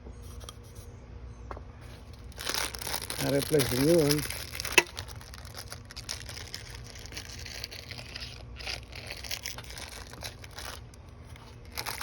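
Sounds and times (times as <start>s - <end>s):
steady low hum: 0.0s - 12.0s
crinkling and rustling: 1.8s - 12.0s.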